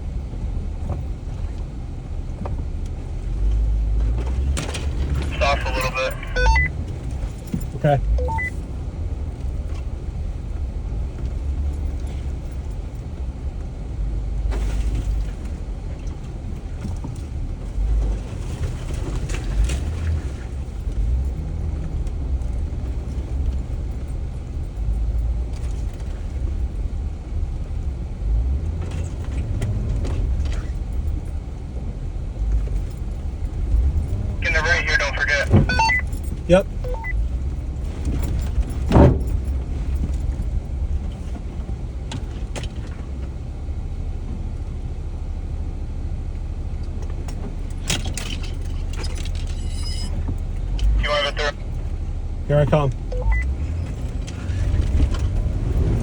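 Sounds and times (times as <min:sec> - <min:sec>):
engine and drivetrain rumble: 0:00.0 - 0:56.0.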